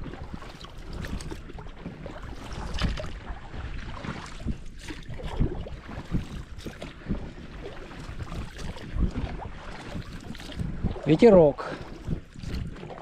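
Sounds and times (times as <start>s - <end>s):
oars dipping and splashing: 0.0s - 13.0s.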